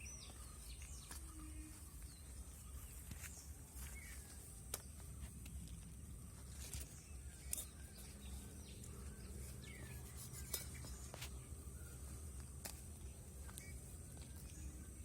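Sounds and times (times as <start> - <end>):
bird chirp: 0.0 - 15.0.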